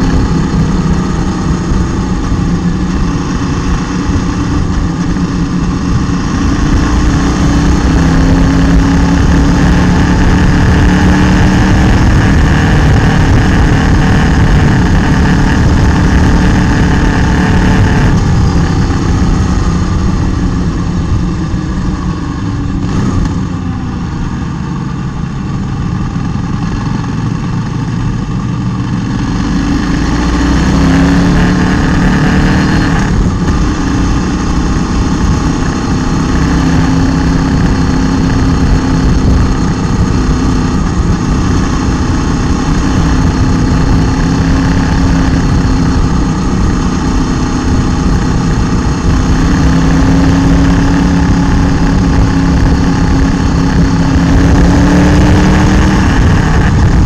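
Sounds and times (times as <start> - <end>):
motorcycle engine running: 0.0 - 57.0
road noise: 0.0 - 57.0
wind rush: 0.0 - 57.0.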